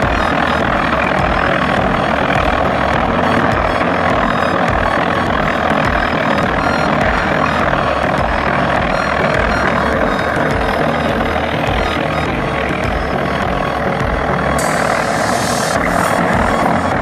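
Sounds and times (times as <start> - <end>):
chain stone-cutting machine running: 0.0 - 17.0.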